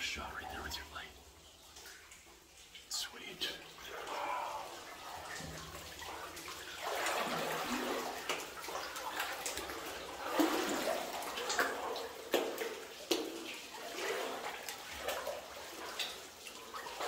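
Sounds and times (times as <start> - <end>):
water sloshing and lapping: 0.0 - 17.0
sharp water splashes: 1.4 - 17.0.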